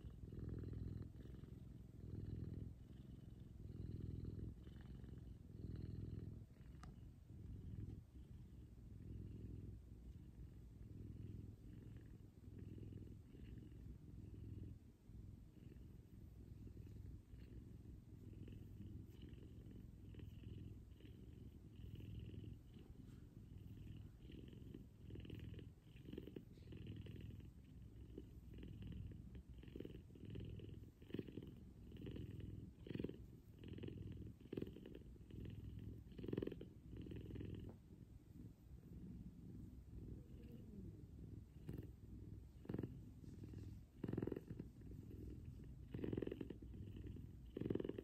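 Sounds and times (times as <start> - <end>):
cat purring: 0.0 - 48.0.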